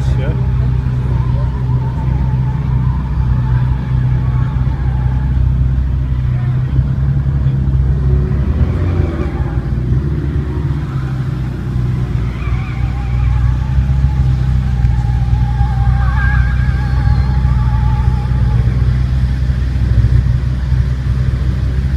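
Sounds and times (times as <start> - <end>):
wavering high-pitched sound: 0.0 - 20.2
car engine idling: 0.0 - 21.9.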